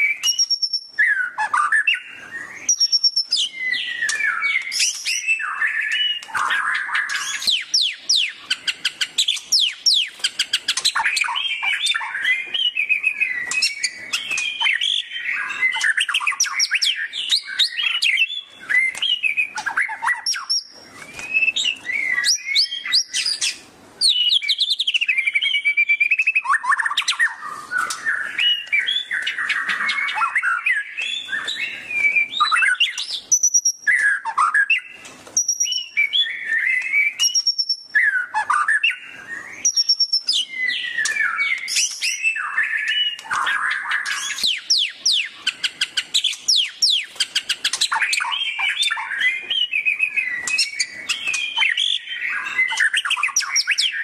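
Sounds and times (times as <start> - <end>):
songbird singing whistles and trills: 0.0 - 54.0.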